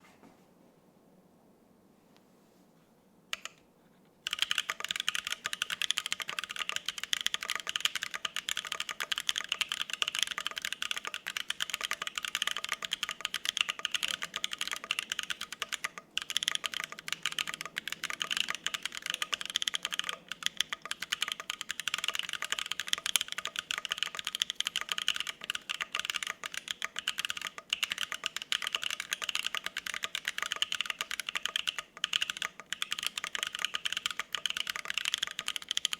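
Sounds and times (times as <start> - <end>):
fast mechanical keyboard typing: 4.3 - 35.9.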